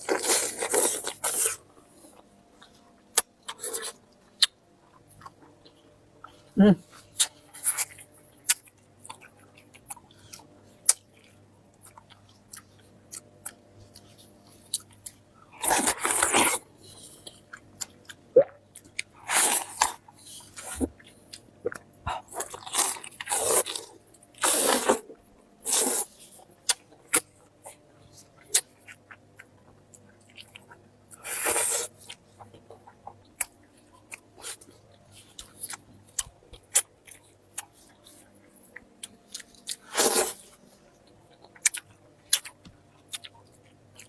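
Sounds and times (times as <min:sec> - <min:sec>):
person chewing with mouth clicks: 0:00.0 - 0:44.0.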